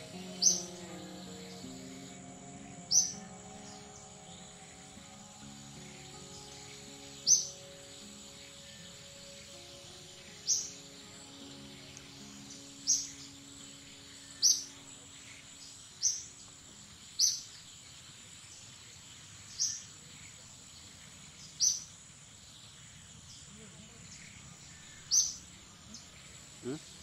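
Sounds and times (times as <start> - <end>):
bird chirping: 0.0 - 27.0
high insect hum: 0.0 - 27.0.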